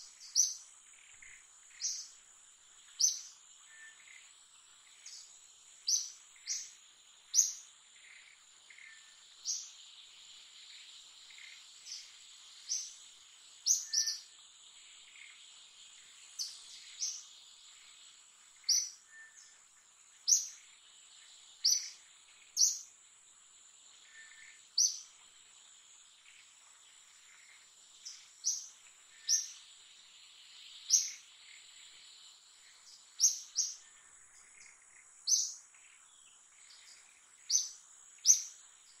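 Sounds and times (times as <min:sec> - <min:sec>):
birds chirping: 0:00.0 - 0:02.2, 0:02.8 - 0:23.0, 0:26.1 - 0:39.0.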